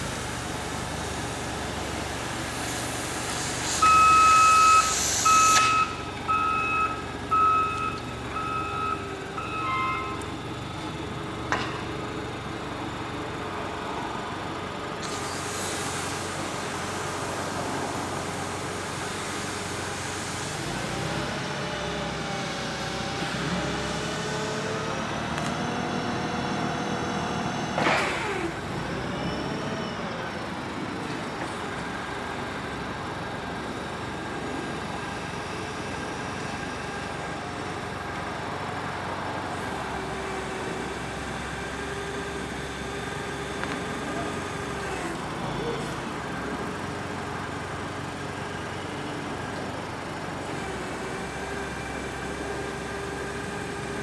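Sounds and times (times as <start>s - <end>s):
forklift engine running: 0.0s - 54.0s.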